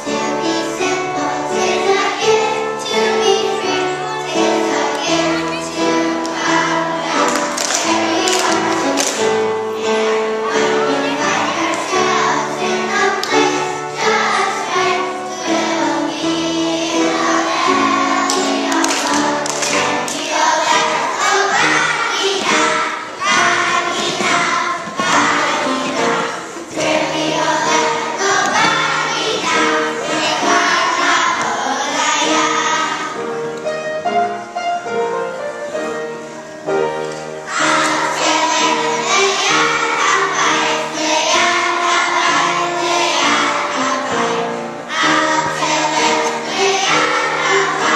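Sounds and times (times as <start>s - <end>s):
children singing in chorus: 0.0s - 33.6s, 37.4s - 47.9s
music playing: 0.0s - 47.9s.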